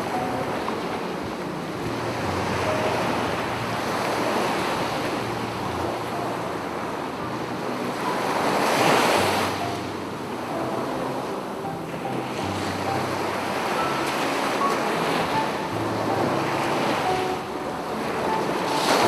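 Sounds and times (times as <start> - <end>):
sea surf rushing onto beach: 0.0 - 19.0.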